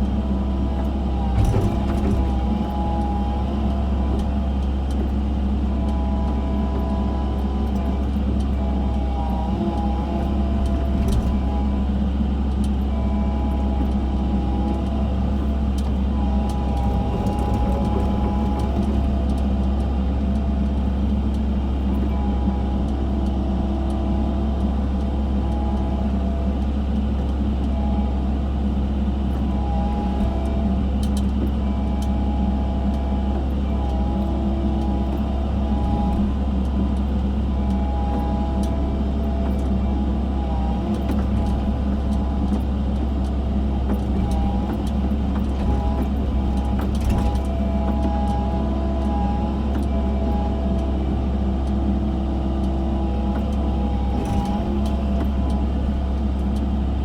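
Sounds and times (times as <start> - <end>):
hydraulic whining: 0.0 - 28.6, 29.2 - 57.0
diesel engine running: 0.0 - 57.0.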